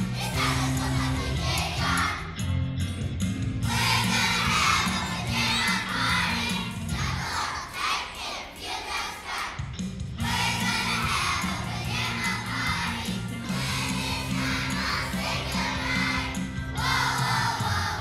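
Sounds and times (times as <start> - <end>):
children's choir singing: 0.0 - 2.4, 3.6 - 18.0
backing music: 0.0 - 18.0.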